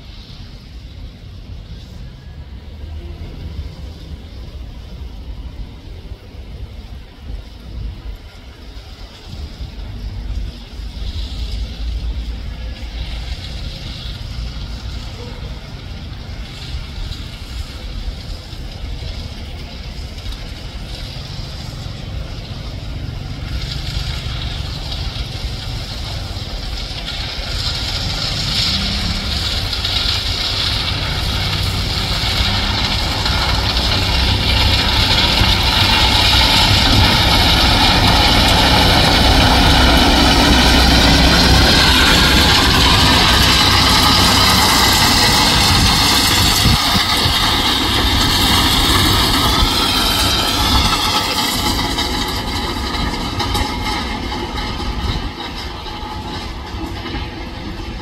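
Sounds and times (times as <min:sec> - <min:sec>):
diesel engine running: 0:00.0 - 0:58.0
plough blades grinding stone ballast: 0:10.9 - 0:58.0.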